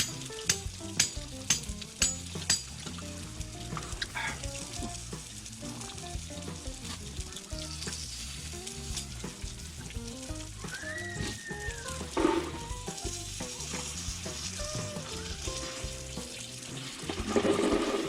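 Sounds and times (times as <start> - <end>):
food sizzling in a pan: 0.0 - 18.0
light background music: 0.0 - 18.0.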